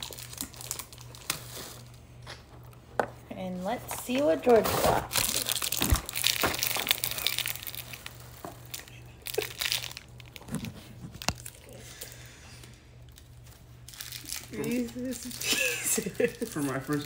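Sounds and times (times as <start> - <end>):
plastic wrapper crinkling: 0.0 - 2.0, 3.9 - 17.0.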